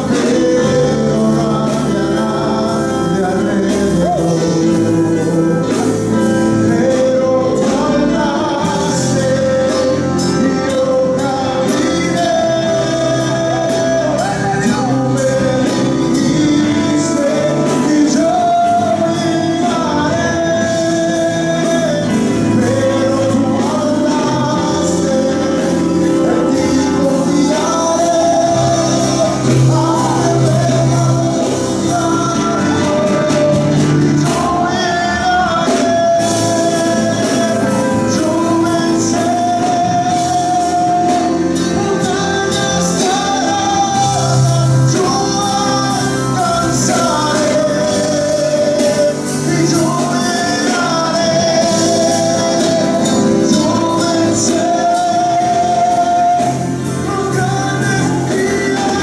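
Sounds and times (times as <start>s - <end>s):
man singing into a microphone: 0.0s - 59.0s
worship band playing: 0.0s - 59.0s.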